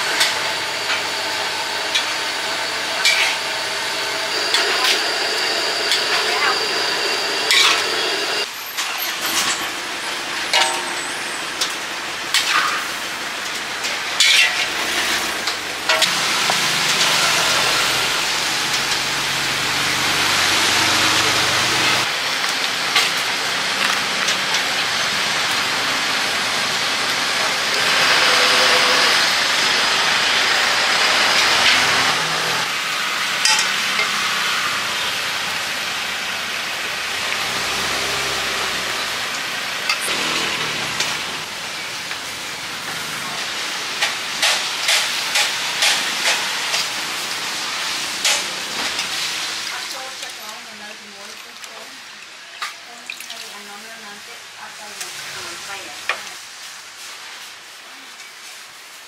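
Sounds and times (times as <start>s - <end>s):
street traffic: 0.0s - 58.0s
food sizzling: 0.0s - 59.0s.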